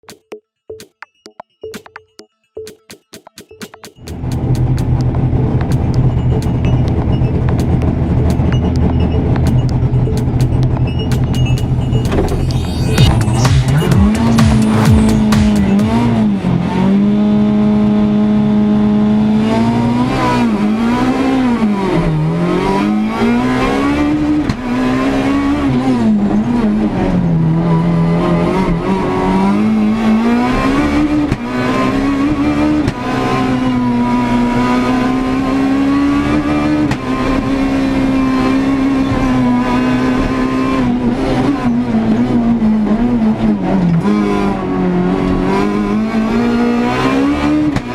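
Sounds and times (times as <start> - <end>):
rally car engine revving: 4.1 - 47.9.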